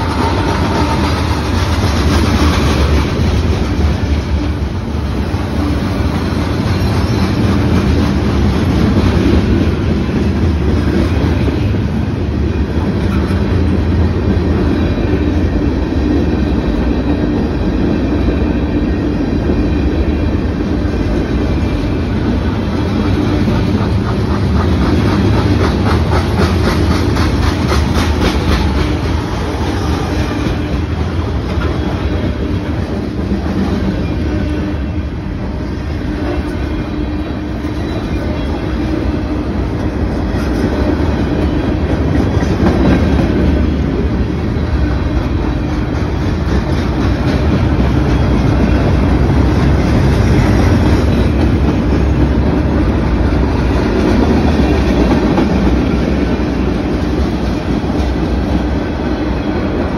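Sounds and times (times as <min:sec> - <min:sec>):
freight train rumbling past: 0:00.0 - 0:59.9
train wheels clacking on rails: 0:00.0 - 0:59.9.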